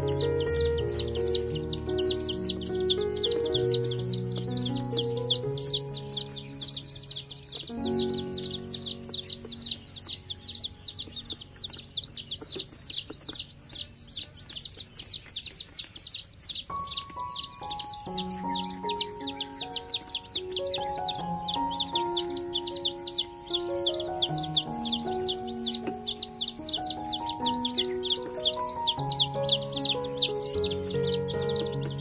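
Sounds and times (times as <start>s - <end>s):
baby chicks peeping: 0.0s - 32.0s
soft background music: 0.0s - 32.0s.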